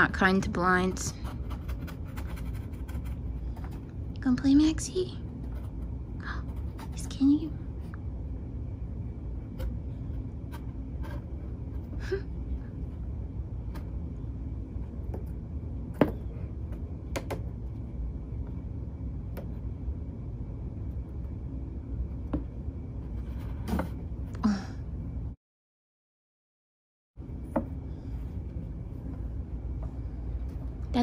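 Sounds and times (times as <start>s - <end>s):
low background rumble: 0.0s - 25.4s.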